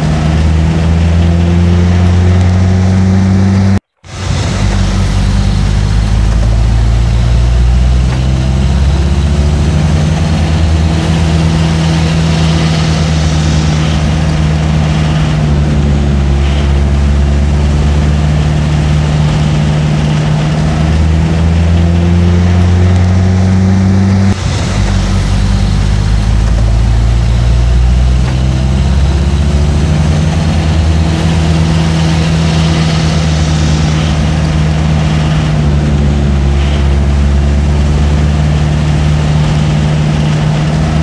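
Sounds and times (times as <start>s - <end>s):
truck engine running: 0.0s - 41.0s.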